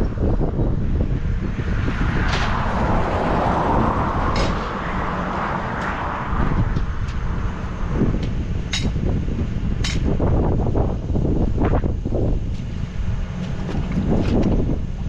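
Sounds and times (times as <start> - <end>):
diesel pickup engine rumbling: 0.0 - 15.0.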